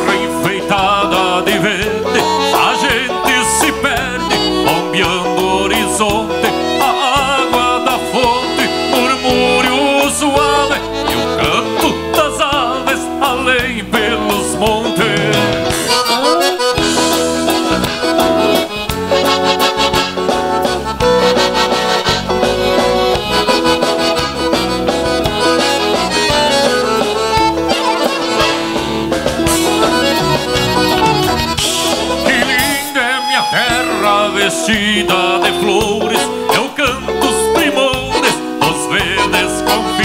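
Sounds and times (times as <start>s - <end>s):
accordions: 0.0s - 40.0s
live band playing dance music: 0.0s - 40.0s.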